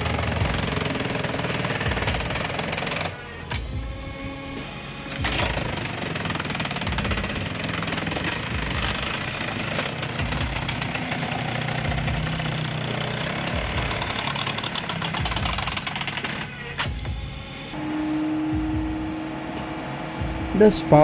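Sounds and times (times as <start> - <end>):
engine running with rattling knock: 0.0 - 21.0.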